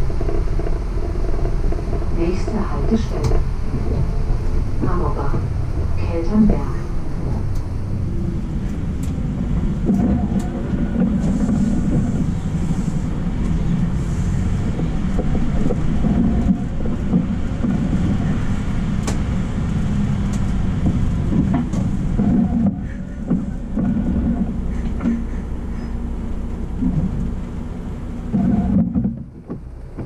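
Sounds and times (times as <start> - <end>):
bus drivetrain and road rumble: 0.0 - 30.0.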